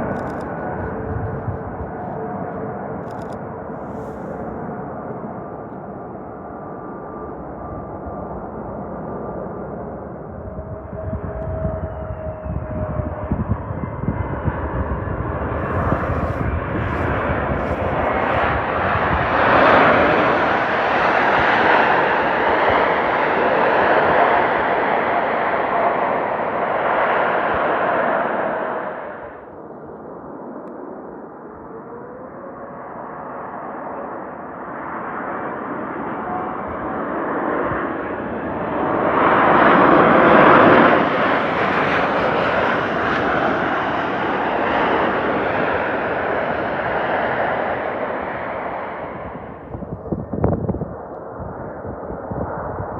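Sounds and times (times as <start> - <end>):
jet airliner landing rush: 0.0 - 52.9.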